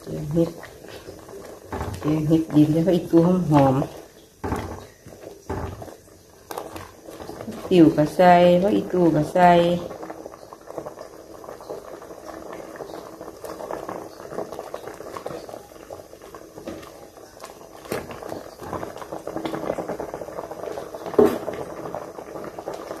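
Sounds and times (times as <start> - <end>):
curry boiling in a pot: 0.0 - 23.0
ladle stirring: 0.0 - 23.0.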